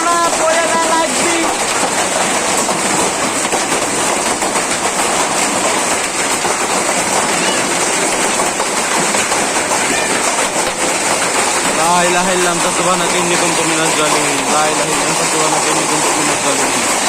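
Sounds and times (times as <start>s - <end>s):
hail and heavy rain pelting: 0.0s - 17.0s.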